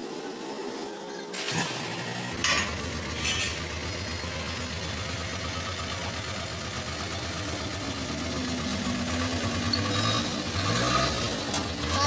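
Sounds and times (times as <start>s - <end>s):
vehicle engine idling: 1.8s - 12.0s.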